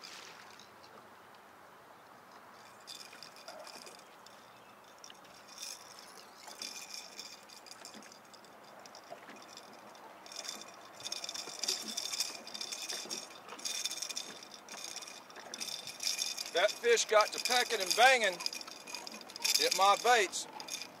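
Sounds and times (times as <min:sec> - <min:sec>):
fishing reel clicking: 0:02.6 - 0:21.0.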